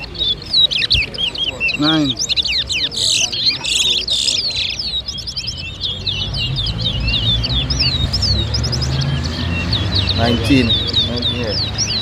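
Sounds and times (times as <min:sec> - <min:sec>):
finches twittering: 0:00.0 - 0:12.0.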